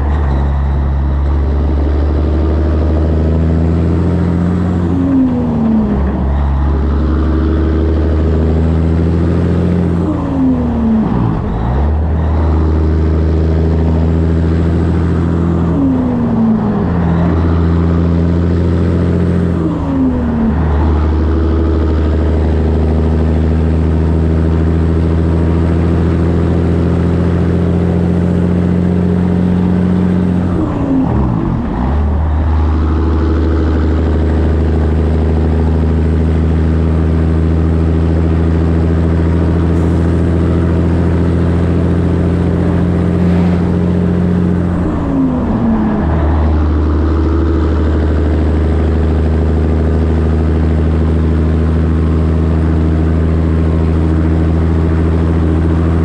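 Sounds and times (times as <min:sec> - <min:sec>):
road and wind noise: 0:00.0 - 0:56.0
truck diesel engine running: 0:00.0 - 0:56.0.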